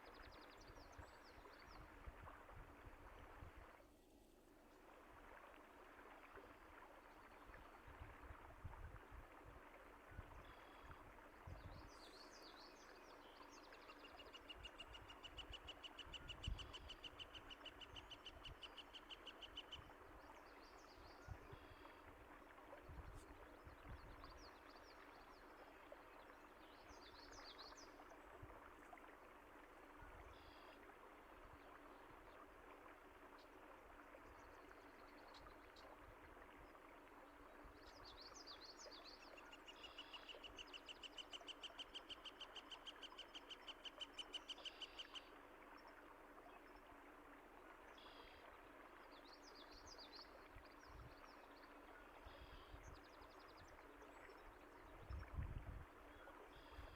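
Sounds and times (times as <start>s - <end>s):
stream running water: 0.0s - 56.9s.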